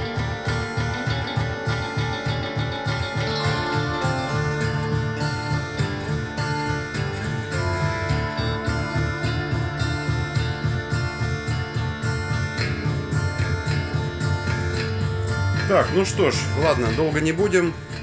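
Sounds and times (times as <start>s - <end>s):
guitar music with bass line: 0.0s - 18.0s.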